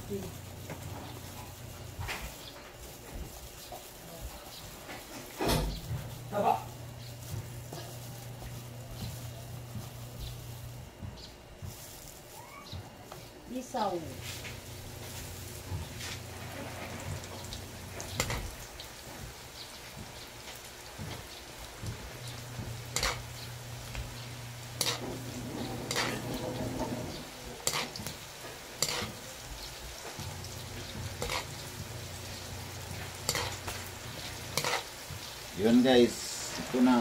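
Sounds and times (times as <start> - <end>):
food deep-frying in oil: 0.0 - 12.7, 13.5 - 37.0.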